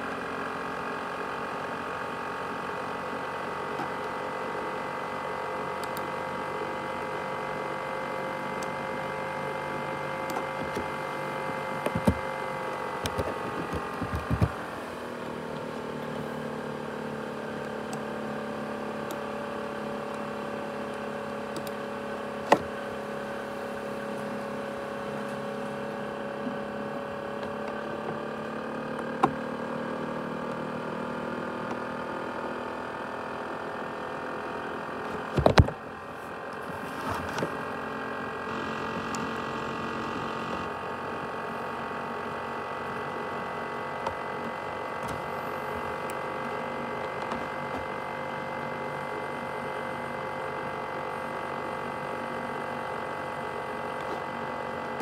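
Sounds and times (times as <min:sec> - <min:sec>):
laptop cooling fan whine: 0:00.0 - 0:55.0.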